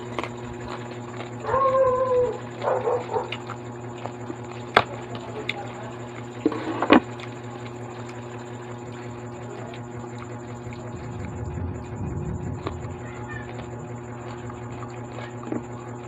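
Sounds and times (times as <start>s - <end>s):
eating and food handling: 0.0s - 16.0s
steady low hum: 0.0s - 16.0s.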